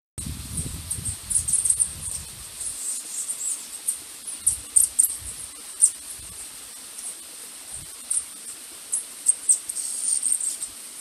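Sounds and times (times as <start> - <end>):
insects chirping shrilly: 0.5 - 11.0.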